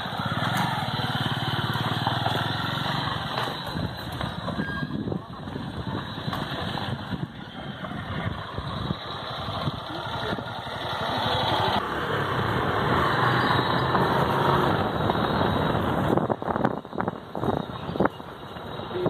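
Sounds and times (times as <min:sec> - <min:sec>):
road noise: 0:00.0 - 0:19.0
vehicle engine: 0:00.0 - 0:19.0.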